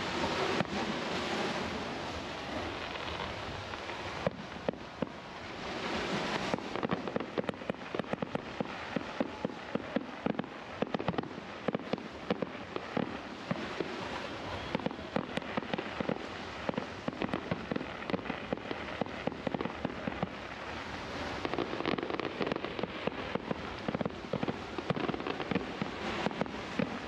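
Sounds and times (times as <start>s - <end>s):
fireworks bangs and pops: 0.0s - 27.0s
steady hiss: 0.0s - 27.0s.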